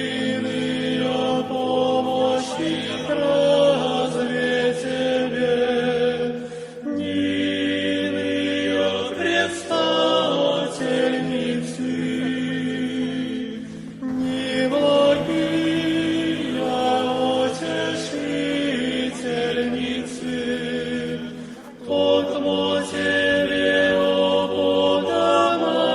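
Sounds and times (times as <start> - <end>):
choir chanting long held notes: 0.0 - 25.9.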